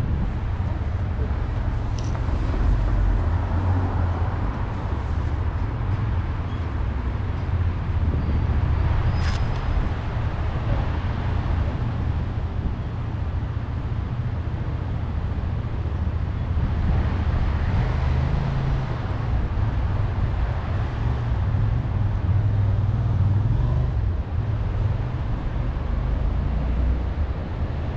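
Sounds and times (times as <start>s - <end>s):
city traffic rumble: 0.0s - 27.9s.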